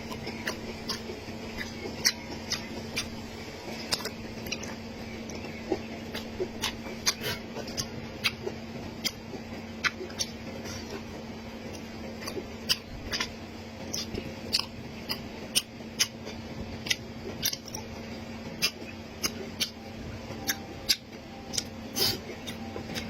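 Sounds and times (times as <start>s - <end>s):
chewing crunches: 0.0s - 23.0s
low hum: 0.0s - 23.0s.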